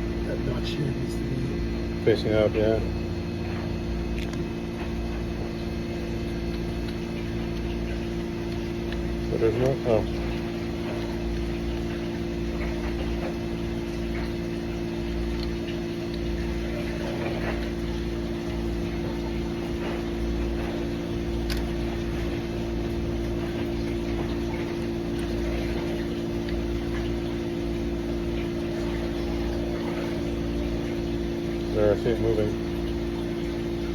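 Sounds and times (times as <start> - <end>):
steady machine hum: 0.0 - 33.9.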